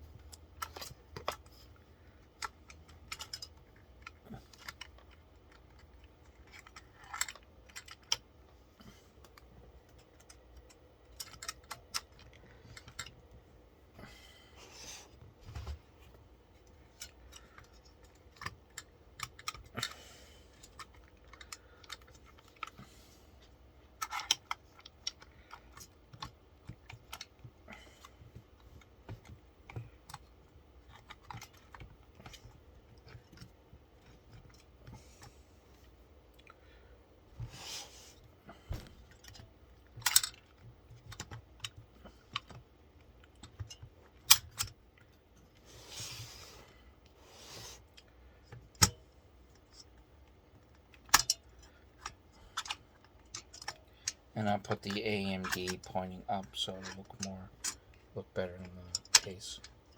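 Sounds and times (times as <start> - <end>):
plastic and metal parts clicking: 0.1 - 14.1, 15.2 - 36.7, 38.2 - 45.6, 47.6 - 59.9.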